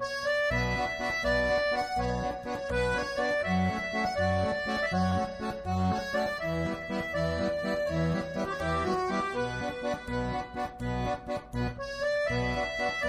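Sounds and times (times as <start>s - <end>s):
accordion chords: 0.0s - 13.0s
steady bass line: 0.2s - 13.0s.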